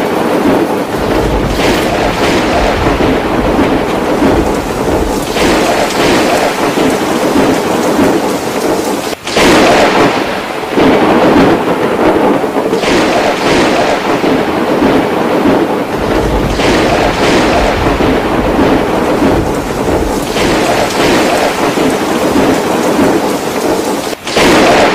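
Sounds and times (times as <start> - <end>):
heavy rain pouring: 0.0 - 24.9
low rumble of thunder: 0.0 - 24.9.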